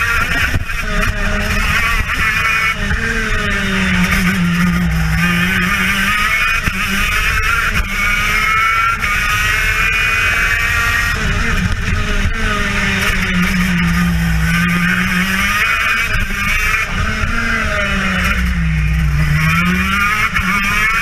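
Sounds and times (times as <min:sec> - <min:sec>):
kart engine at race speed: 0:00.0 - 0:21.0.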